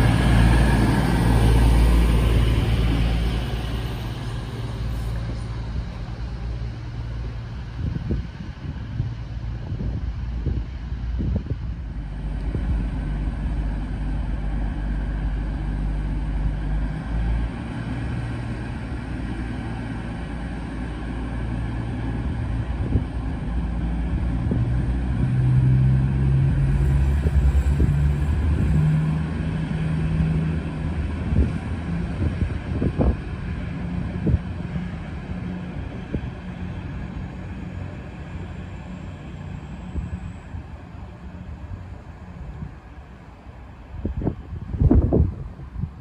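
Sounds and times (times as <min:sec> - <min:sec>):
diesel train accelerating: 0:00.0 - 0:46.0.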